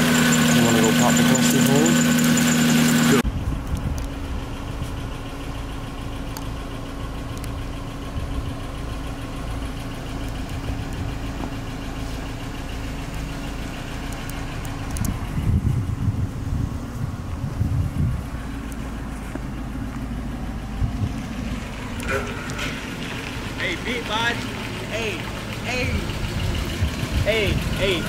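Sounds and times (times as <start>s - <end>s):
car engine idling: 0.0s - 28.0s
uneven low rumbling: 0.0s - 28.0s.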